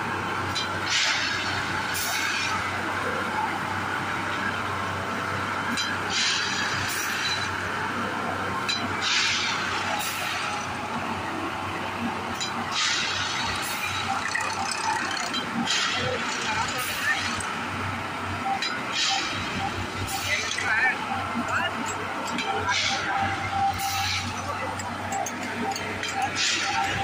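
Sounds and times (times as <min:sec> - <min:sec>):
machine engine humming: 0:00.0 - 0:27.0.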